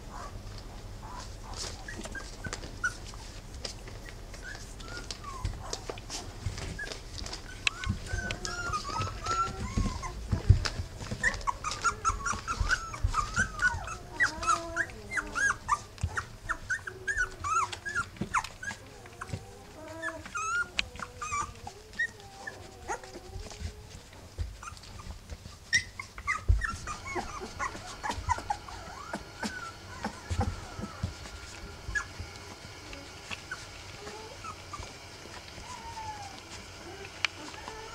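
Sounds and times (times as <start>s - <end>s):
puppies grunting: 0.0s - 37.9s
puppies squeaking and whimpering: 1.0s - 37.9s.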